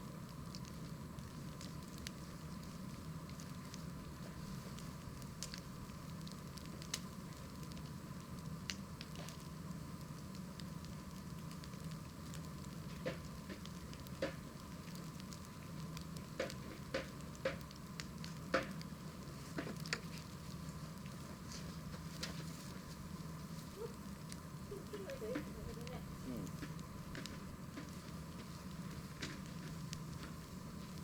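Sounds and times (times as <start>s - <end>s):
low background noise: 0.0s - 31.0s
wood fire crackling: 0.0s - 31.0s.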